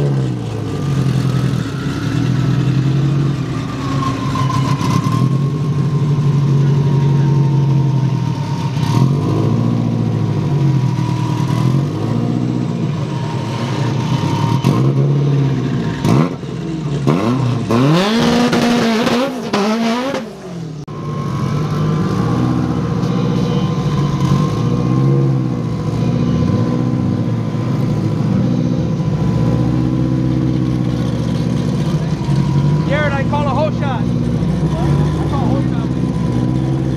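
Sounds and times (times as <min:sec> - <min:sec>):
race car engines revving: 0:00.0 - 0:36.9.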